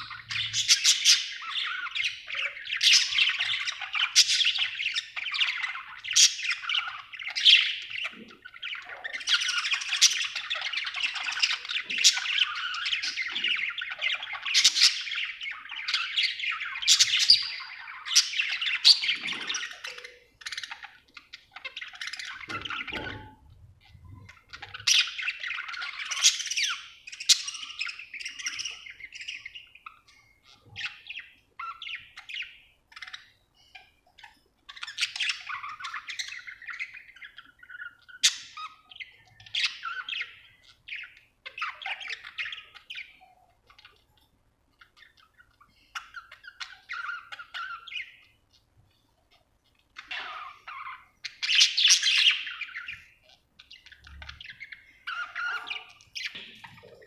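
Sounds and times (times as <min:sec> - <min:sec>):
budgerigar chirping and warbling: 0:00.0 - 0:48.7, 0:49.3 - 0:57.0.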